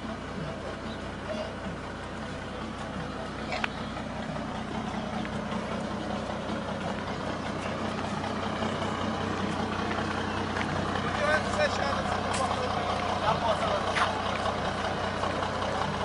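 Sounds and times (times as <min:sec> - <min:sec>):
truck engine humming: 0:00.0 - 0:16.0.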